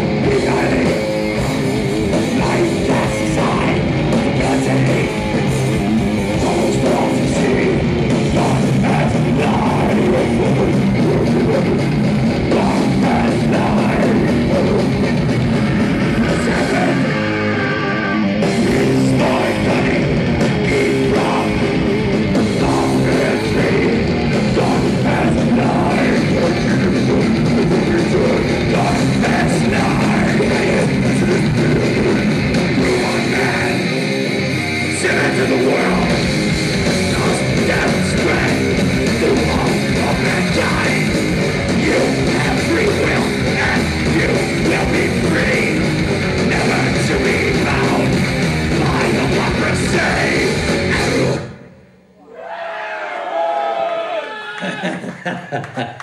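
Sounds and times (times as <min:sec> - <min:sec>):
distorted electric guitars: 0:00.0 - 0:56.0
drums: 0:00.0 - 0:56.0.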